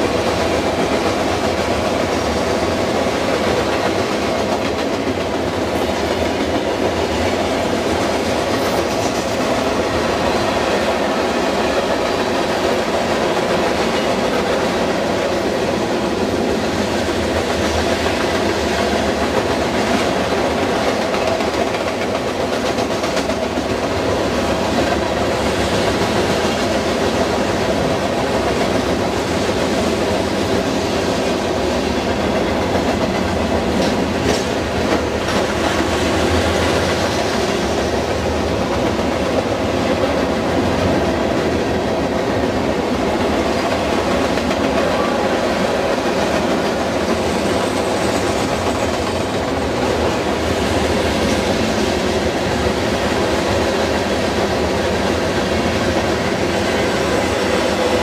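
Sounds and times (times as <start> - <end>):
freight train rumbling and rattling: 0.0 - 58.0.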